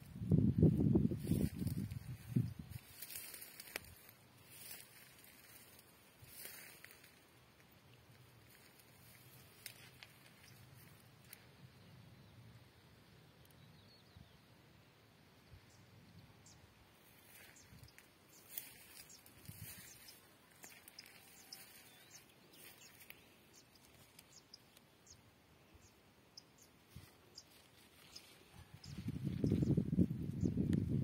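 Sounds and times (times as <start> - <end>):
faint outdoor ambience: 0.0 - 31.0.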